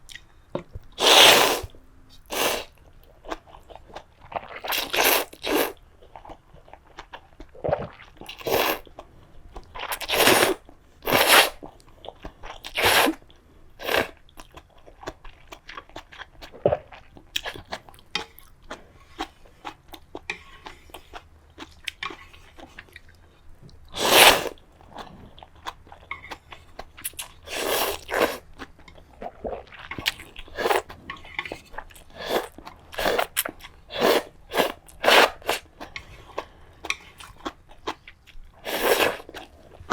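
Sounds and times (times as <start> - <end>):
person crunching and chewing food: 1.0 - 23.2, 23.9 - 39.9.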